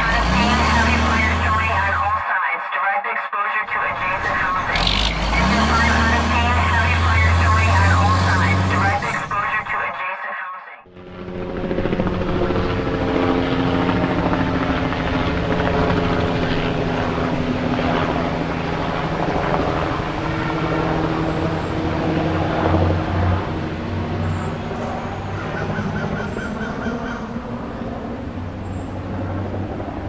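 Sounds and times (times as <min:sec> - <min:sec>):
large engine droning: 0:00.0 - 0:02.2, 0:03.7 - 0:09.9, 0:10.9 - 0:30.0.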